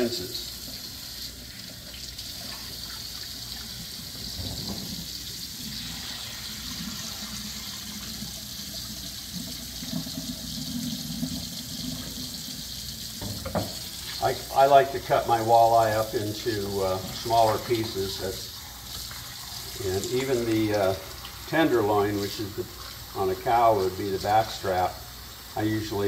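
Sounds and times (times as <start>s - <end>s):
water running from faucet: 0.0s - 26.0s.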